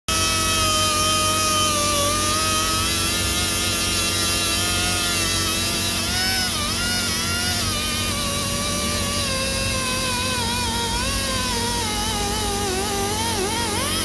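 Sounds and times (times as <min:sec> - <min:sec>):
power tool motor whine: 0:00.1 - 0:14.0.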